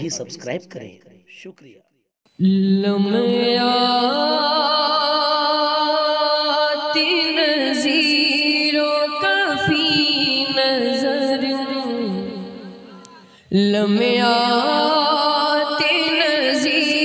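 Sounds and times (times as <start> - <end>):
person singing unaccompanied: 2.3 - 17.0.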